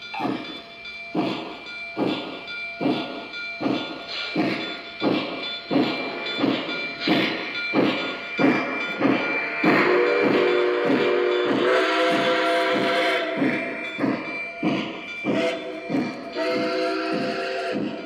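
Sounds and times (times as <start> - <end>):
model train steam chuffs: 0.0 - 18.0.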